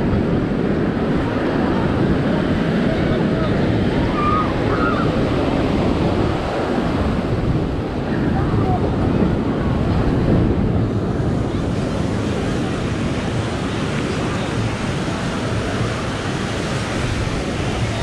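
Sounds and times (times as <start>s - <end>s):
surf washing onto beach: 0.0s - 18.0s
wind on microphone: 0.0s - 18.0s.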